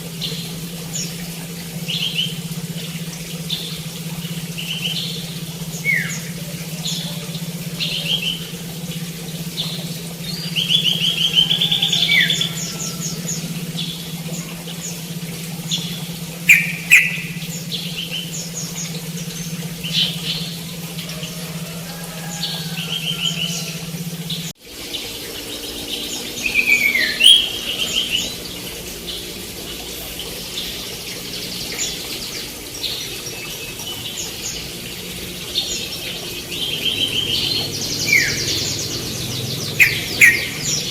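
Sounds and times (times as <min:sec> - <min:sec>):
steady low hum: 0:00.0 - 0:40.9
songbirds chirping and singing: 0:00.1 - 0:40.9.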